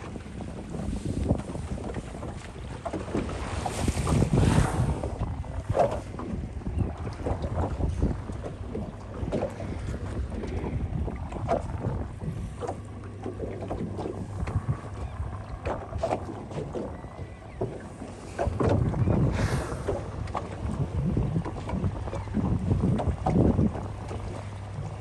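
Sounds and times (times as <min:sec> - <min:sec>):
water slapping boat hull: 0:00.0 - 0:25.0
wind buffeting microphone: 0:00.0 - 0:25.0.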